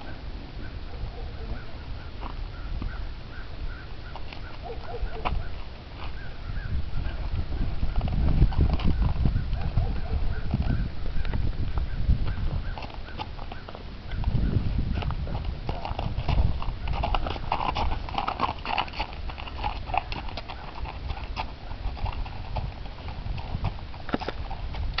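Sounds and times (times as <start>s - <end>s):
horse hooves clip-clopping on gravel: 0.9s - 25.0s.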